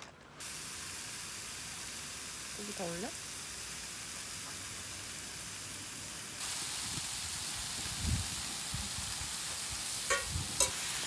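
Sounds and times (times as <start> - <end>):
meat sizzling on a griddle: 0.4 - 11.0.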